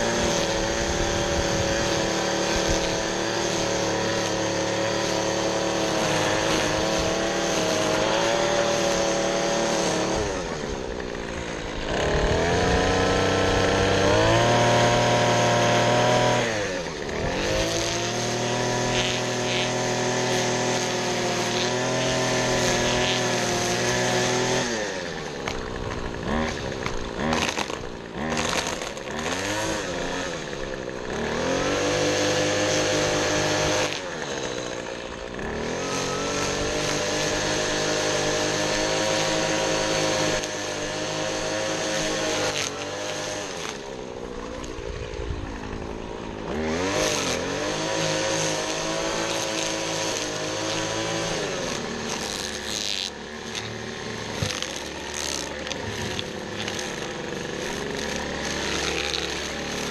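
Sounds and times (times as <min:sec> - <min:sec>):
small petrol engine revving: 0:00.0 - 0:59.9.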